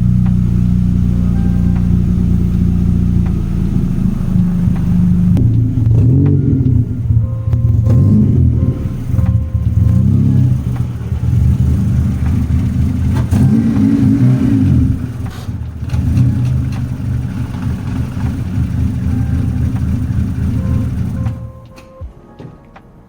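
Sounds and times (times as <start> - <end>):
car engine revving: 0.0 - 21.7.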